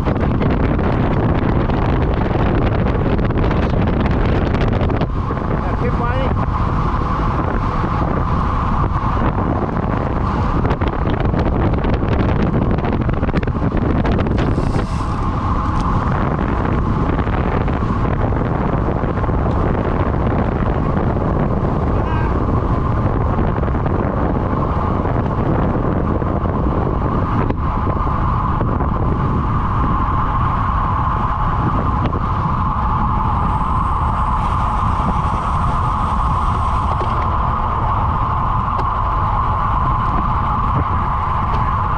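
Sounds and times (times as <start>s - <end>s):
low rumble: 0.0s - 41.9s
mid-range hum: 0.0s - 41.9s
wind buffeting microphone: 0.0s - 41.9s.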